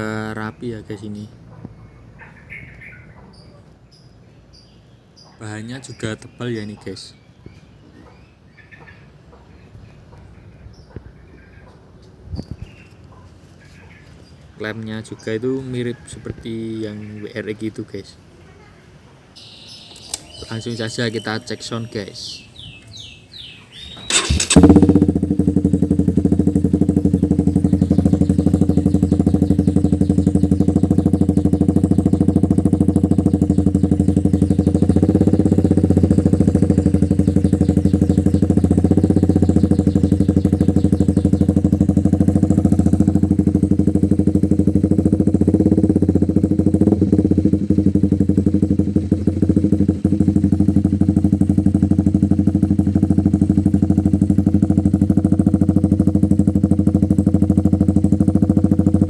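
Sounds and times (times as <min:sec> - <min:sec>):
motorcycle engine idling: 0:00.0 - 0:18.3, 0:19.4 - 0:59.0.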